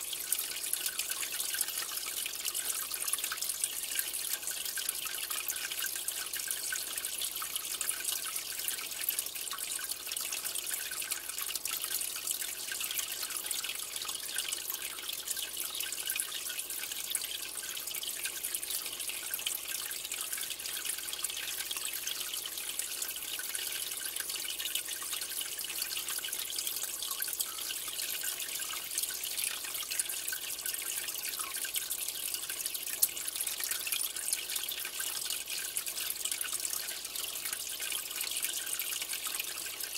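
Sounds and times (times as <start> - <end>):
aquarium filter water splashing: 0.0 - 39.9.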